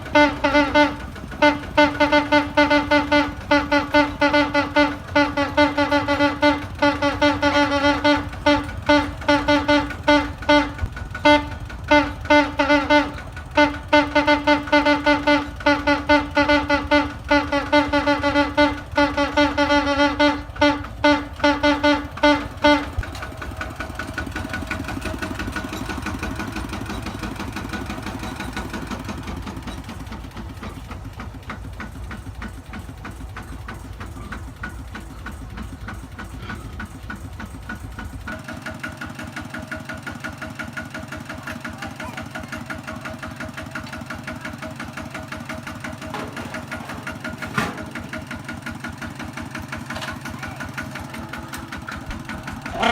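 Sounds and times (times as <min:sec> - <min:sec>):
diesel engine idling: 0:00.0 - 0:52.9
tractor horn blasts: 0:00.0 - 0:52.9.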